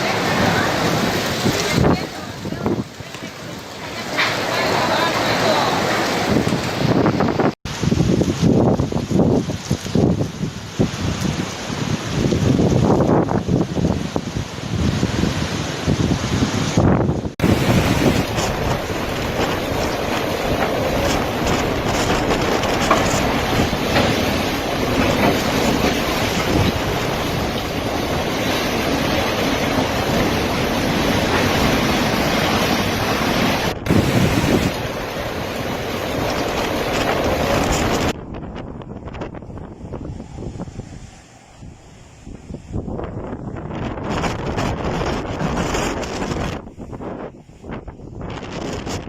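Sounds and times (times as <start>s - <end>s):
storm wind buffeting microphone: 0.0s - 49.0s.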